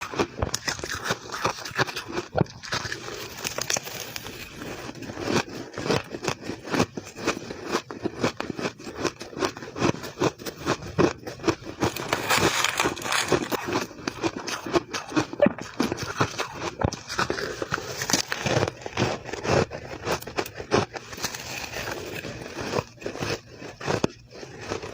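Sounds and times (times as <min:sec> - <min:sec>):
crunching shaved ice: 0:00.0 - 0:24.9.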